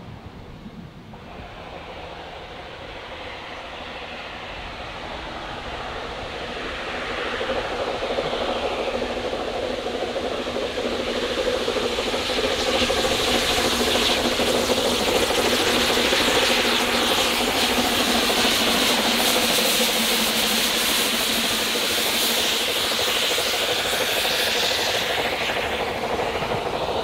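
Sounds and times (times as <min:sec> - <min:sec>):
steam locomotive passing: 0:00.0 - 0:27.0.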